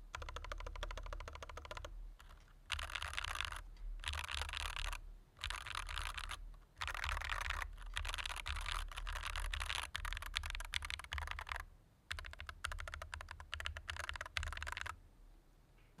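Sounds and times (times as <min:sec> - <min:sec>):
keyboard keystroke clicks: 0:00.1 - 0:15.0.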